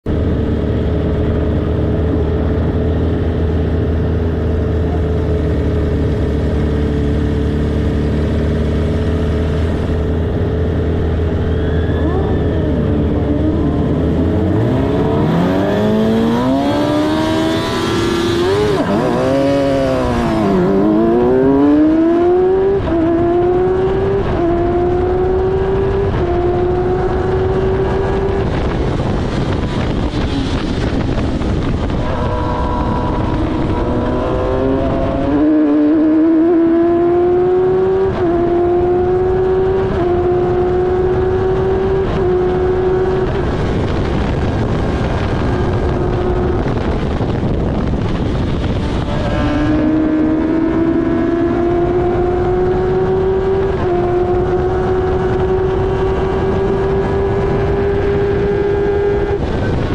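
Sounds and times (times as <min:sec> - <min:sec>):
racing car engine revving: 0:00.7 - 0:59.9.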